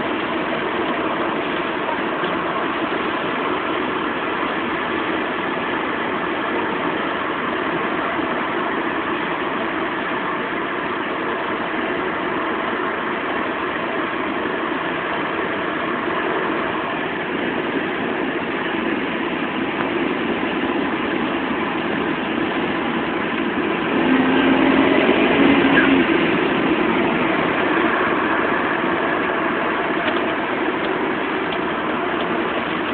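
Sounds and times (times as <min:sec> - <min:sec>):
car engine and road noise: 0:00.0 - 0:32.9
whinny noise: 0:00.0 - 0:32.9.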